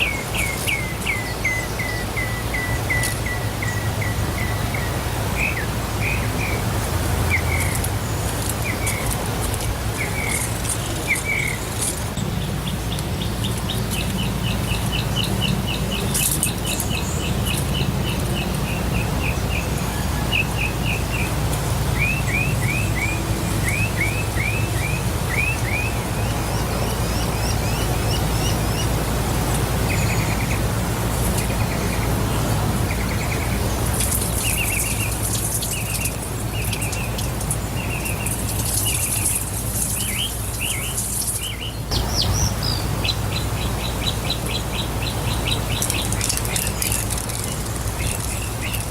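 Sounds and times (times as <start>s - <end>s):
bird chirping: 0.0s - 9.2s, 9.9s - 48.9s
waterfall rushing: 0.0s - 48.9s.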